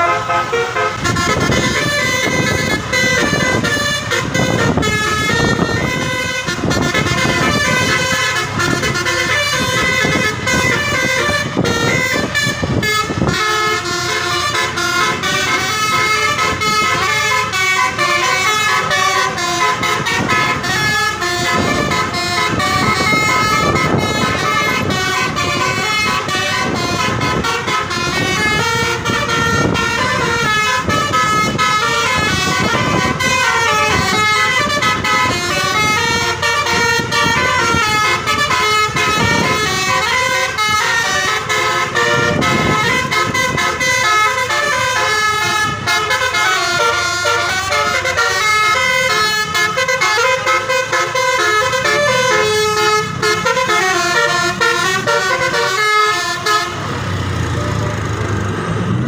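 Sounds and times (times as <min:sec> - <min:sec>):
musical air horn melody: 0:00.0 - 0:57.0.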